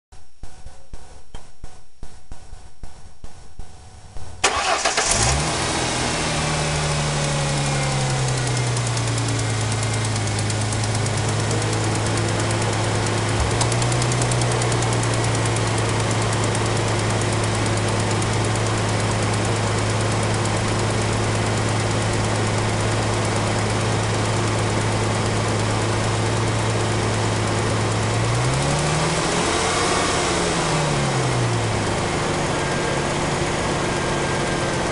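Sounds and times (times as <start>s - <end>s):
car engine revving: 4.4s - 34.9s
car engine idling with ticking: 4.6s - 34.9s.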